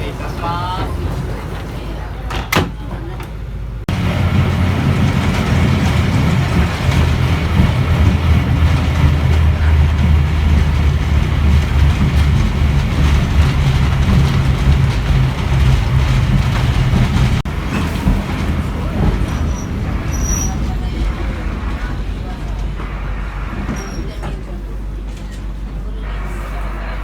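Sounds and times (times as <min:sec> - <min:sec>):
train rumbling along track: 0:00.0 - 0:27.0.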